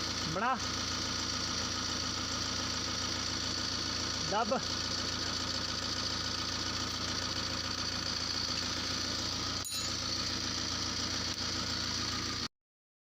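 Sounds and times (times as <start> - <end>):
diesel engine idling: 0.0 - 12.5.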